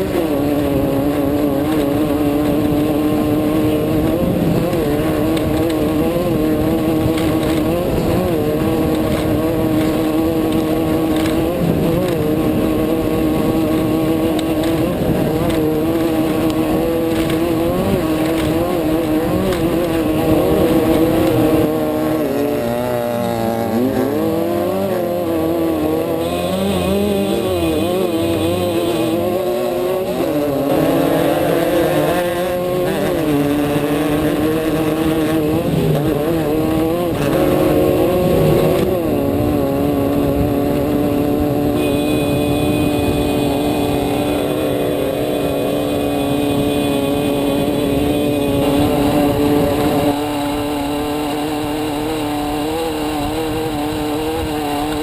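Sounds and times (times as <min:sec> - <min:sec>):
driving noise: 0:00.0 - 0:55.0
engine revving: 0:00.0 - 0:55.0.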